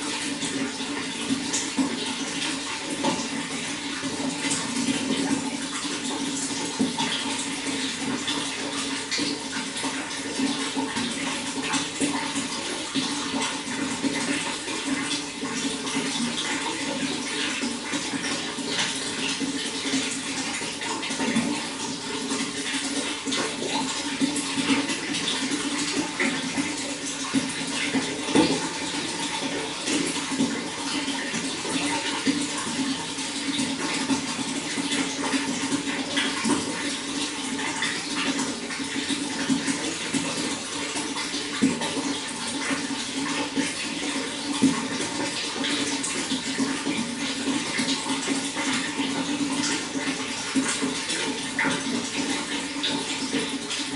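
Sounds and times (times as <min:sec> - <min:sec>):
running water splashing: 0:00.0 - 0:53.9.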